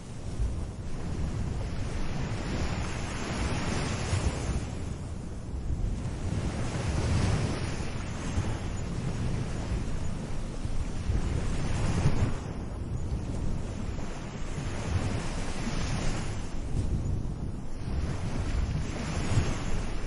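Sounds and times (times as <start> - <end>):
low rumble of surf: 0.0 - 20.0
small waves washing onto beach: 0.0 - 20.0.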